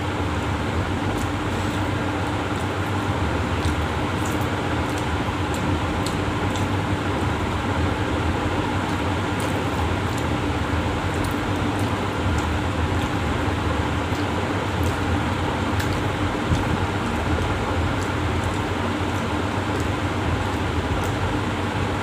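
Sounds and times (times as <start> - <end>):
eating rice by hand: 0.0 - 22.0
electric fan running: 0.0 - 22.0.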